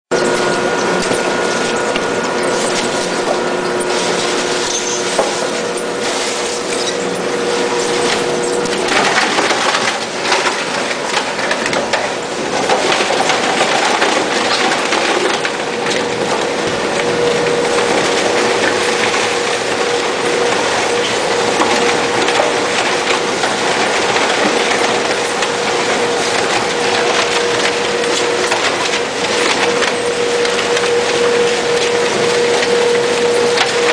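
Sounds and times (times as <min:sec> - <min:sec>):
machine hum: 0:00.1 - 0:33.9
polystyrene crackling: 0:00.4 - 0:33.9.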